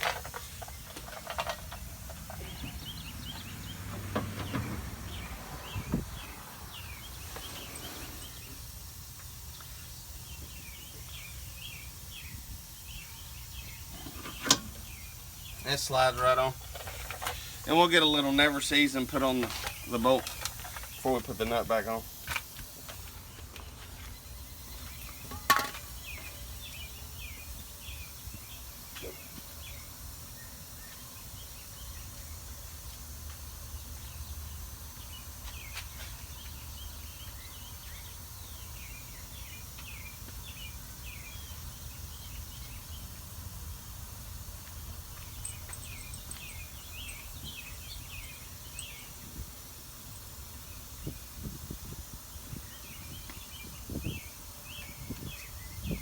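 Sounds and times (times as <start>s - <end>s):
small birds chirping: 0.1s - 56.0s.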